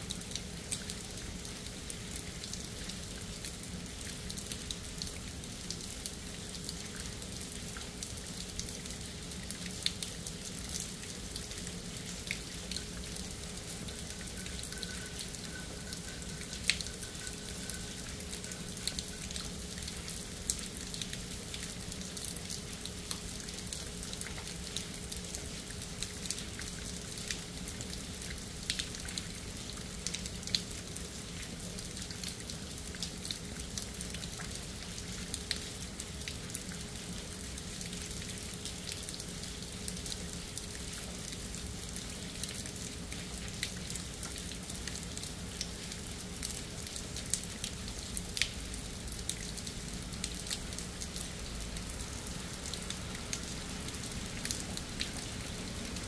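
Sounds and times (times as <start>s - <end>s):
faint steady hum: 0.0s - 56.0s
rain falling: 0.0s - 56.0s
raindrops pattering: 0.0s - 56.0s.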